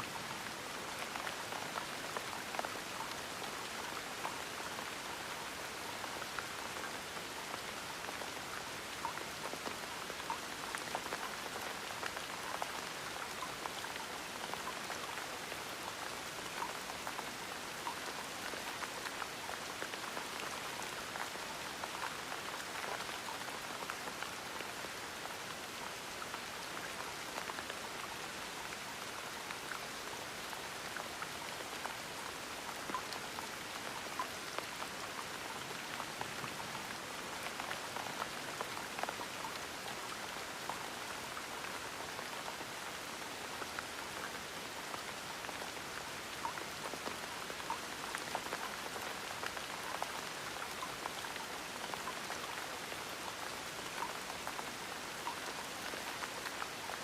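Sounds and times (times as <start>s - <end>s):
gentle rain hiss: 0.0s - 57.0s
raindrops pattering on surface: 0.0s - 57.0s.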